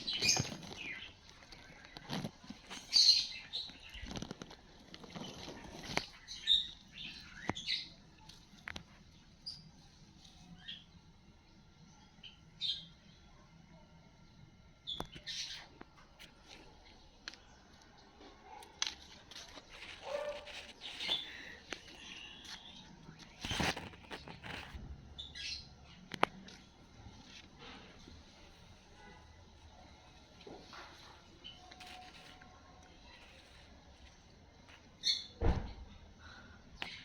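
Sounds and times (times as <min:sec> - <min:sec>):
small birds chirping: 0:00.0 - 0:13.4, 0:14.8 - 0:35.4, 0:36.3 - 0:37.0.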